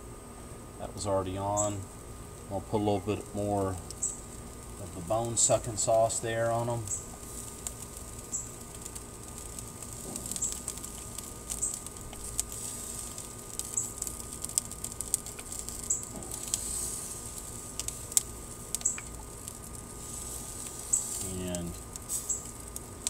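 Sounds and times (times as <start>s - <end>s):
low steady rumble: 0.0s - 23.0s
sauce sizzling on grill: 0.3s - 23.0s.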